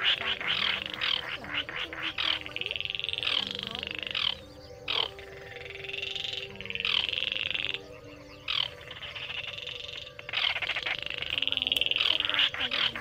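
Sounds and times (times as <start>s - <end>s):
bird rattling trills: 0.0s - 7.8s, 8.4s - 13.0s
bird downward-sliding notes: 0.0s - 13.0s.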